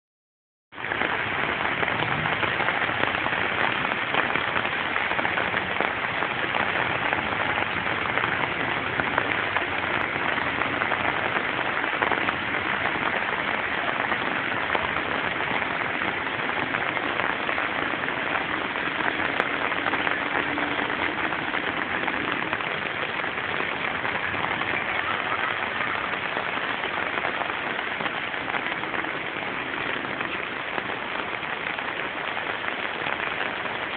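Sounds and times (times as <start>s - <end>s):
rain falling steadily: 0.7s - 33.9s.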